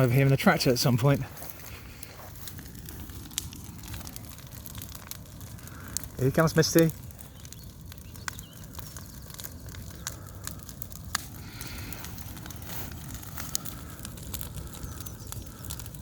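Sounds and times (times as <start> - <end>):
bonfire crackling and popping: 0.0 - 16.0
low rumble of fire: 0.0 - 16.0.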